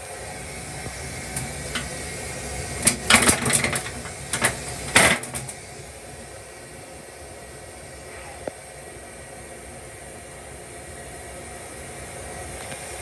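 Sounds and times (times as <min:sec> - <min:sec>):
railcar hiss and rumble: 0:00.0 - 0:13.0.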